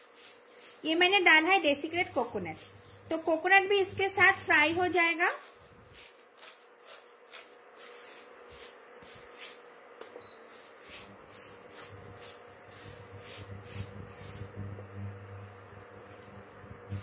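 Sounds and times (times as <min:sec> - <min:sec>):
spatula scraping in pan: 0:00.0 - 0:17.0.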